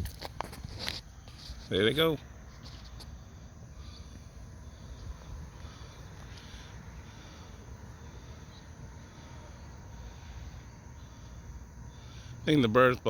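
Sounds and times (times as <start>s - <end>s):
faint low outdoor rumble: 0.0s - 13.0s.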